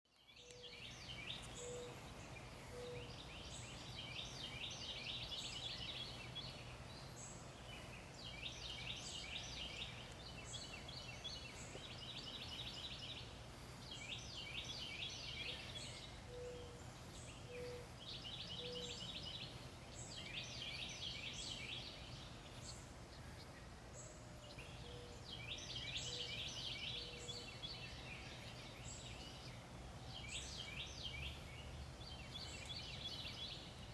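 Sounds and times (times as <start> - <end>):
small birds singing: 0.0 - 33.9.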